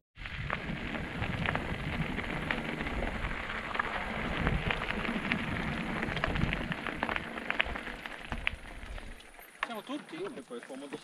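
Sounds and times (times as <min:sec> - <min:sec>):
bike tyres crackling over gravel: 0:00.2 - 0:11.0.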